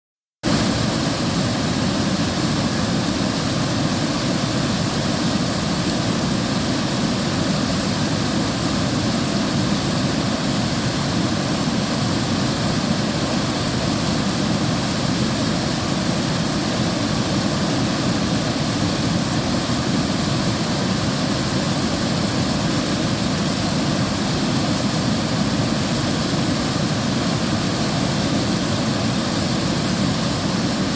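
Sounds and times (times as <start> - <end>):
river water rushing: 0.4 - 30.9.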